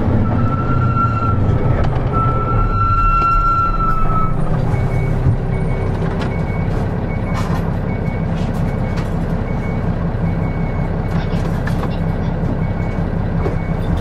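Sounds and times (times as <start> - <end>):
bus diesel engine rumbling: 0.0 - 14.0.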